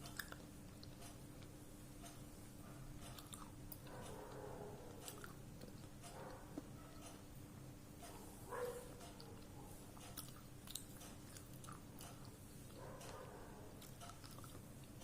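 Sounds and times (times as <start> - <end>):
close-up chewing with crunchy clicks: 0.0 - 2.2, 2.8 - 7.2, 8.6 - 15.0.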